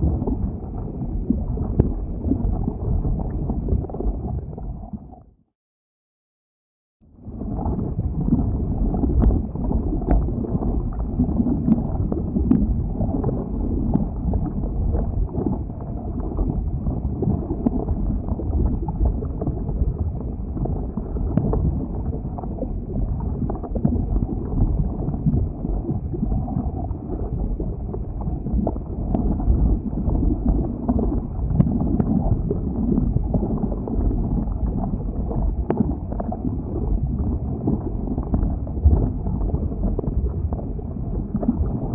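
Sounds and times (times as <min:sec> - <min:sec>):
lava low rumble: 0:00.0 - 0:05.4, 0:07.0 - 0:41.9.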